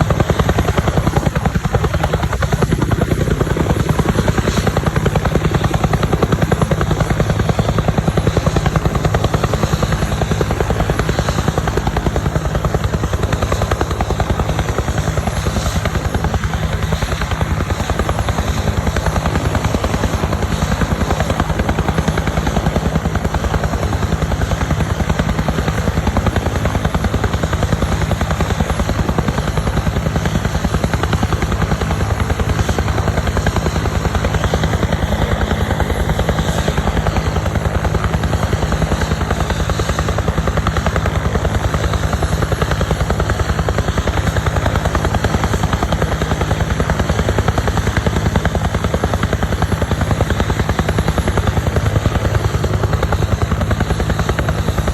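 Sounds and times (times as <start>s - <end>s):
helicopter rotor beating: 0.0s - 54.9s.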